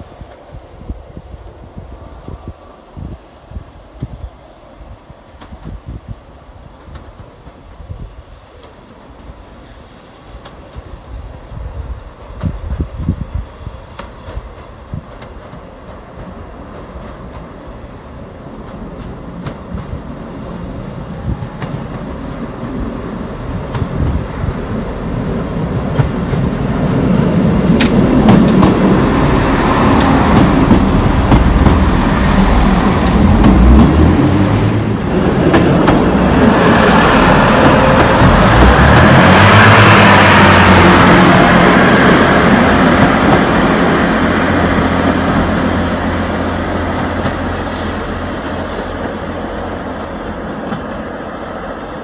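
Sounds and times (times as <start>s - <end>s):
diesel train passing: 0.0s - 52.0s.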